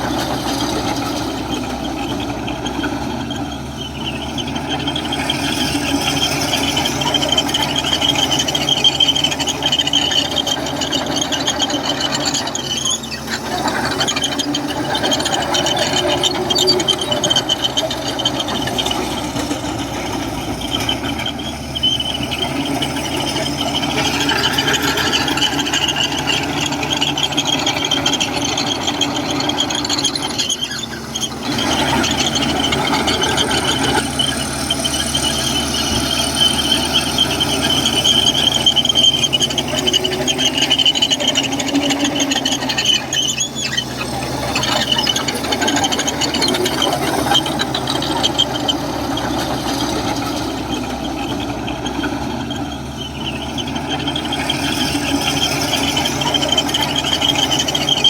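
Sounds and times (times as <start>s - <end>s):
bulldozer diesel engine under load: 0.0s - 58.0s
steel tracks squealing: 0.0s - 58.0s.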